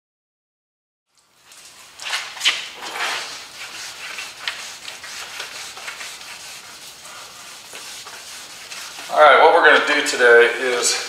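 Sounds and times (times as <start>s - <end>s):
foam pads rubbing car paint: 1.8s - 11.0s.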